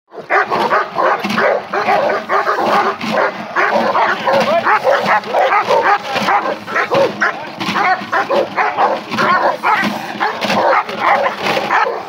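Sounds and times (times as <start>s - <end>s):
dogs barking rapidly: 0.1s - 12.0s.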